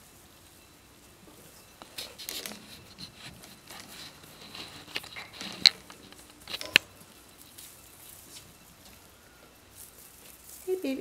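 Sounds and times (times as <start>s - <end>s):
kittens rustling and tapping: 0.0s - 11.0s.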